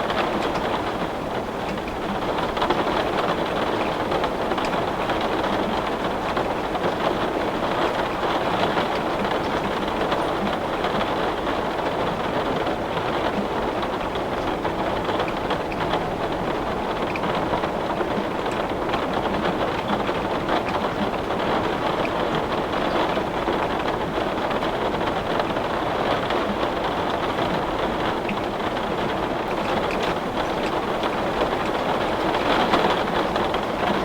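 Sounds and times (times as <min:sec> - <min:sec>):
heavy rain on window glass: 0:00.0 - 0:34.0
raindrops ticking: 0:00.0 - 0:34.0.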